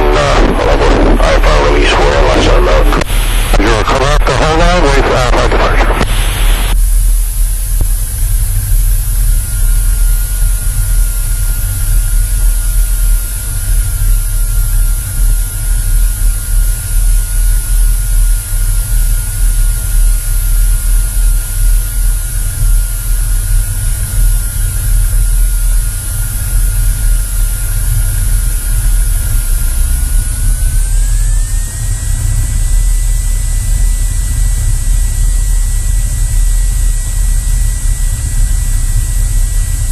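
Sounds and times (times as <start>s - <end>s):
airplane engine and propeller: 0.0s - 39.9s
faint steady whine: 0.0s - 39.9s.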